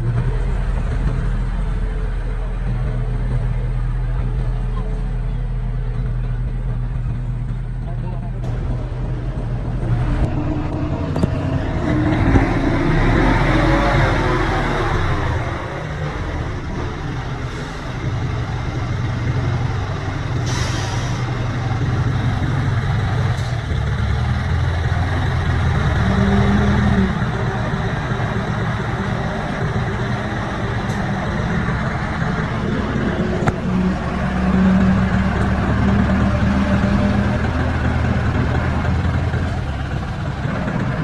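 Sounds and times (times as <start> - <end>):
diesel engine low drone: 0.0 - 41.0.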